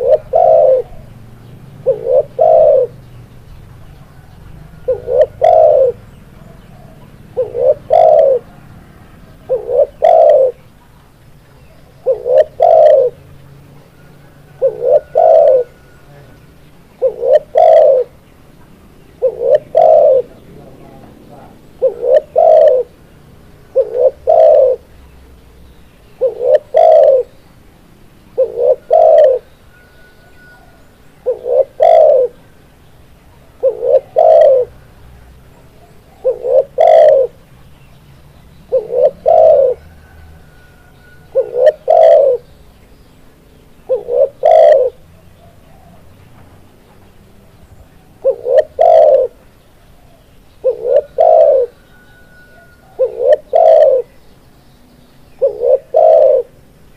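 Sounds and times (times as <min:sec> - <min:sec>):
dove cooing: 0:00.0 - 0:25.0, 0:26.1 - 0:27.4, 0:28.3 - 0:32.6, 0:33.2 - 0:37.5, 0:38.7 - 0:42.5, 0:43.8 - 0:46.2, 0:47.5 - 0:54.2, 0:55.4 - 0:56.8.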